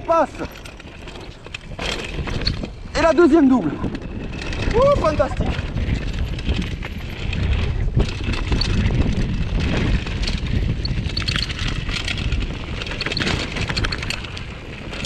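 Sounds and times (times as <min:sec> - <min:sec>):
bike rattling over rough ground: 0:00.0 - 0:15.0
bike tyre noise on gravel: 0:00.0 - 0:15.0
wind rumble on microphone: 0:00.0 - 0:15.0.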